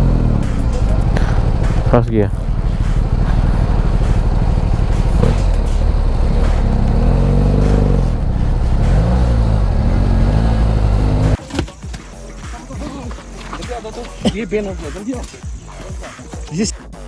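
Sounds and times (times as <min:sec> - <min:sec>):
vehicle engine revving: 0:00.0 - 0:11.4, 0:12.0 - 0:16.2.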